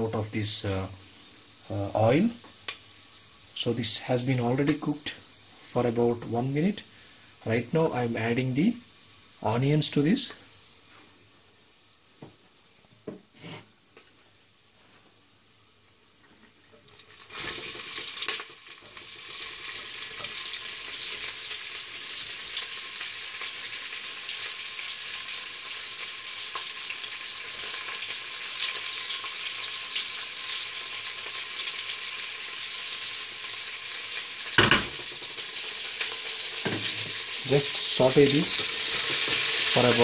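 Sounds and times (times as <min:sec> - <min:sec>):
onions sizzling in hot oil: 0:00.0 - 0:13.8, 0:16.7 - 0:40.0.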